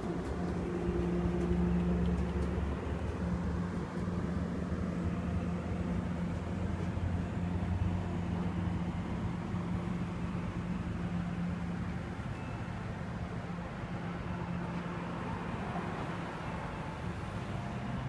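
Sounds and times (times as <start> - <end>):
diesel locomotive drone: 0.0 - 18.0
train coaches rolling: 0.0 - 18.0.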